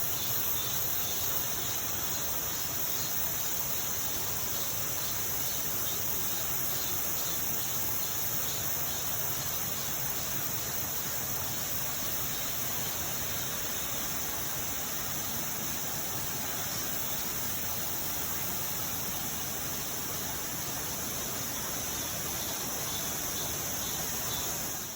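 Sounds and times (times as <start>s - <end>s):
high-pitched insect chorus: 0.0s - 24.9s.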